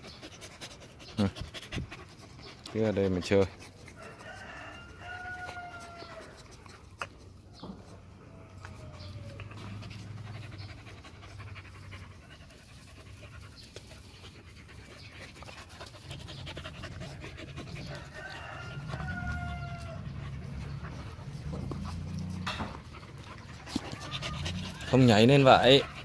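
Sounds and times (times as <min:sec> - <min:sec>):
puppies panting: 0:00.0 - 0:26.0.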